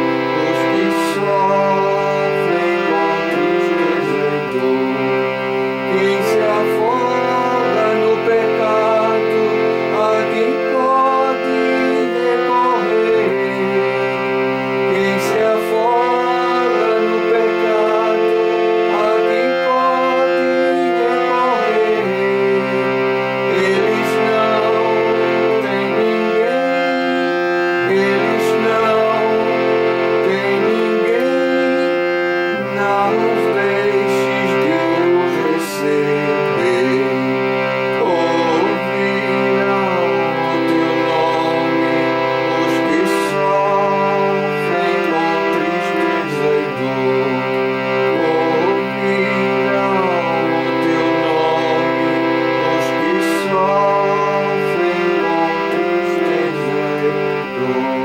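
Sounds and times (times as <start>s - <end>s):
harmonium melody: 0.0s - 58.0s.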